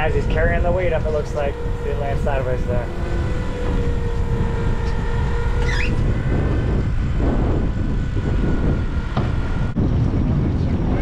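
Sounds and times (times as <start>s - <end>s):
boat engine rumble: 0.0s - 11.0s
thin steady whine: 0.0s - 11.0s.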